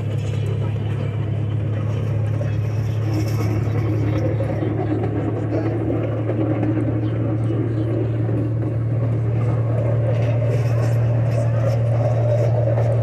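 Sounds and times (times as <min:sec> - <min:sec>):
miniature train engine hum: 0:00.0 - 0:13.0.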